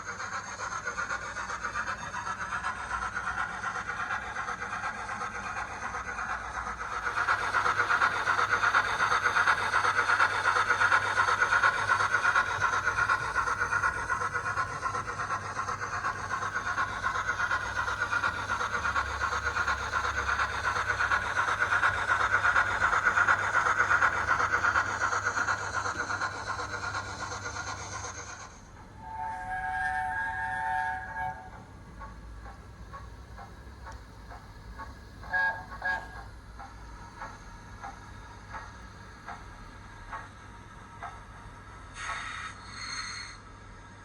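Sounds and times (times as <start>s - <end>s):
steam locomotive exhaust and hiss: 0.0s - 44.0s.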